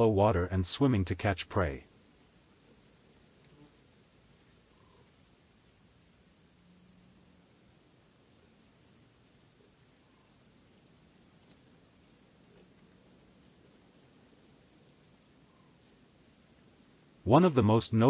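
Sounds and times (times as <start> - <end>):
insect chirping: 0.0 - 18.0
insect trill: 0.0 - 18.0.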